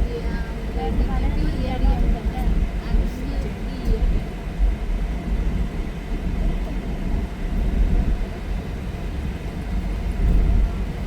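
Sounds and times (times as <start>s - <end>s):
vehicle rumbling: 0.0s - 11.0s
wind buffeting microphone: 0.0s - 11.0s.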